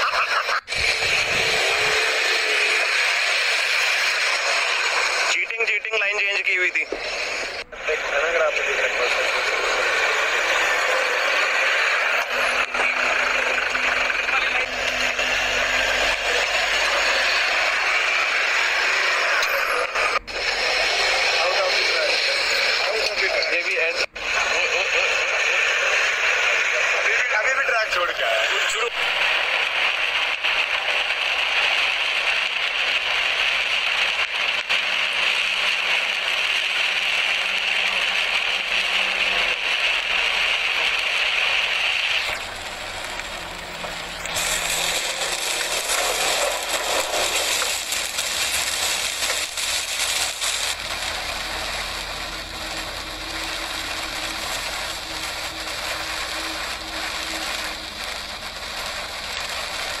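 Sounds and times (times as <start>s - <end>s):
rain and tyres hissing: 0.6s - 60.0s.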